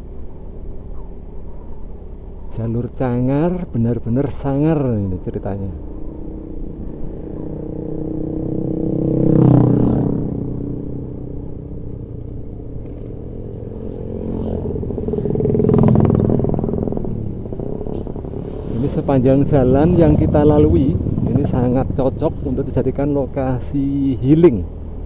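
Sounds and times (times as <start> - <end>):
vehicle engine running: 4.9 - 25.0.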